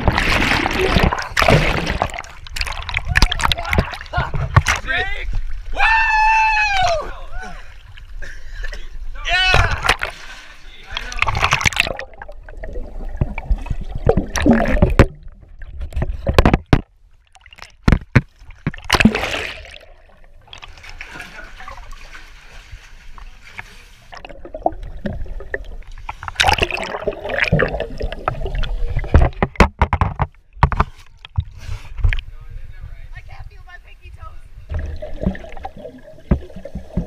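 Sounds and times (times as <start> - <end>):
water sloshing and splashing: 0.0 - 5.8, 9.4 - 32.2, 34.6 - 37.0.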